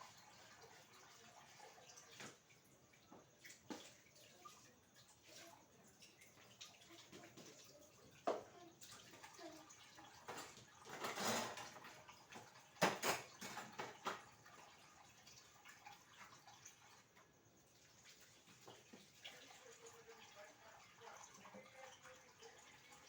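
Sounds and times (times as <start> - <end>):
faint dripping: 0.0 - 23.0
running water: 0.0 - 23.0.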